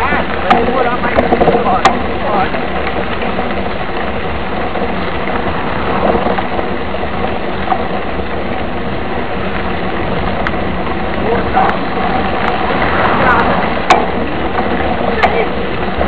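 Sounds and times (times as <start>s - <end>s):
bike tyres on loose gravel: 0.0s - 16.0s
wind on microphone: 0.0s - 16.0s.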